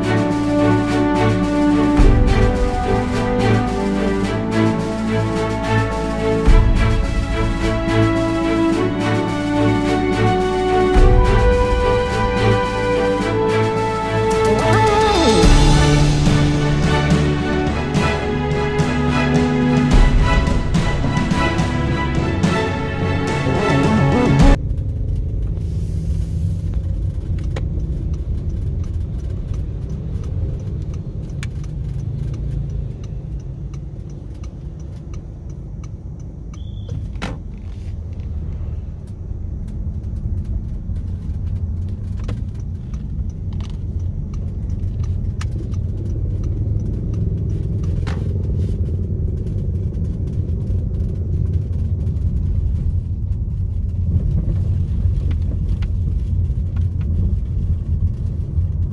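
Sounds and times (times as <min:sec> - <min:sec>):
engine and road rumble: 0:00.0 - 0:58.9.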